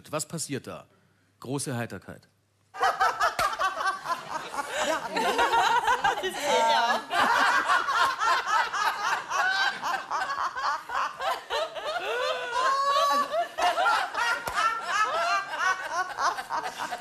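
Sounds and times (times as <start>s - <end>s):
women laughing: 2.8s - 17.0s.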